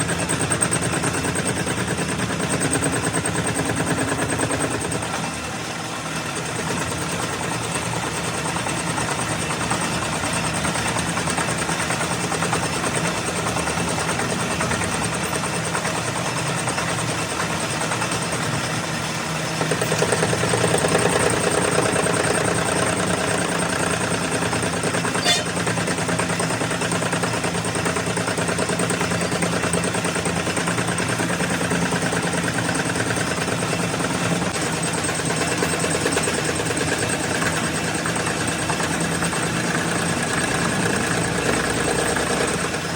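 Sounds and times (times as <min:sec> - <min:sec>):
engine running with fast pulse: 0:00.0 - 0:42.9.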